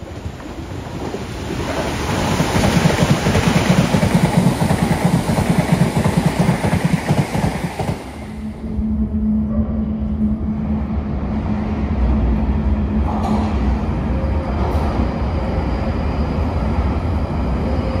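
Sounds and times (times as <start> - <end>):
underground train rumbling in tunnel: 0.0 - 18.0.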